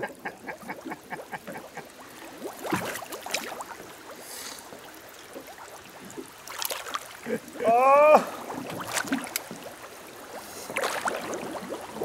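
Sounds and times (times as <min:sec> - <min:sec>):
wading through shallow water: 0:00.0 - 0:12.0.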